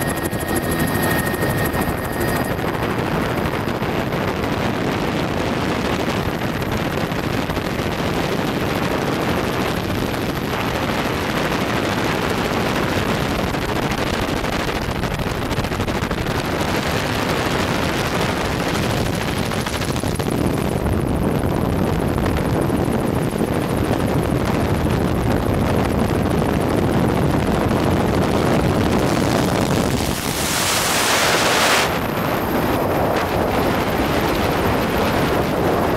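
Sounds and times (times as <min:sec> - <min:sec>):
helicopter rotor and turbine: 0:00.0 - 0:35.9
wind rushing over microphone: 0:00.0 - 0:35.9.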